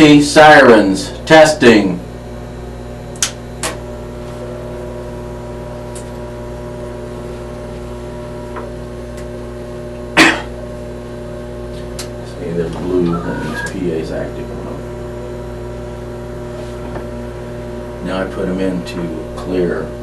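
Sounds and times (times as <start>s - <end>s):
radio electrical hum: 0.0s - 20.0s.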